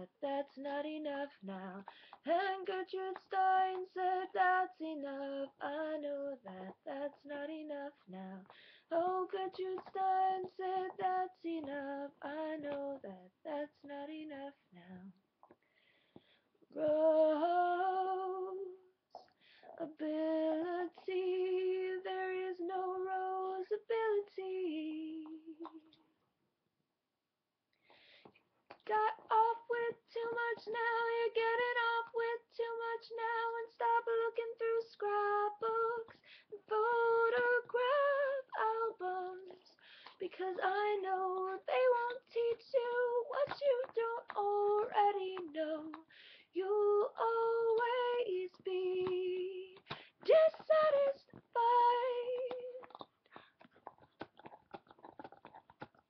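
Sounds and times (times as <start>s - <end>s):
woman singing unaccompanied: 0.0s - 15.2s, 16.7s - 25.9s, 28.7s - 53.0s.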